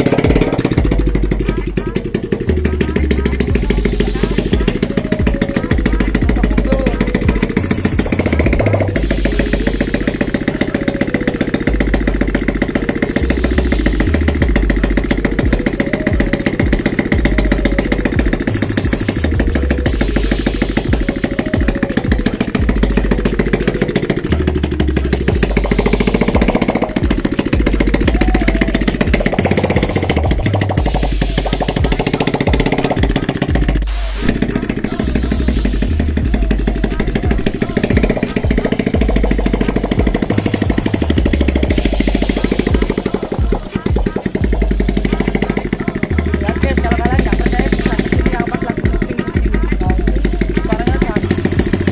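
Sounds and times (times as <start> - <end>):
motorcycle engine popping: 0.0 - 51.9.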